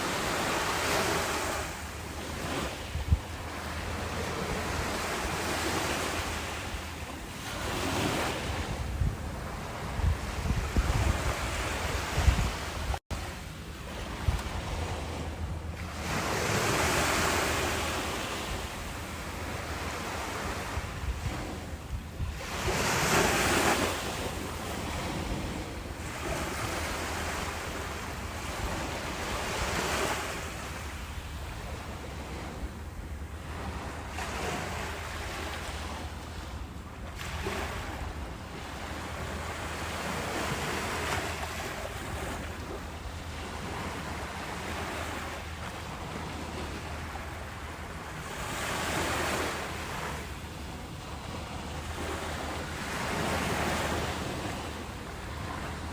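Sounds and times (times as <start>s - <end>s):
ocean surf breaking: 0.0s - 32.7s, 37.2s - 55.9s.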